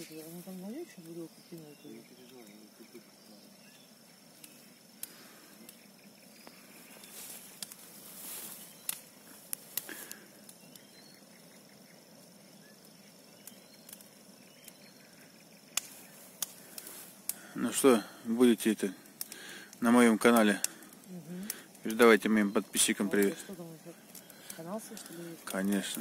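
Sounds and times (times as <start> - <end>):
bonfire crackling and popping: 0.0 - 26.0
fire hissing: 0.0 - 26.0.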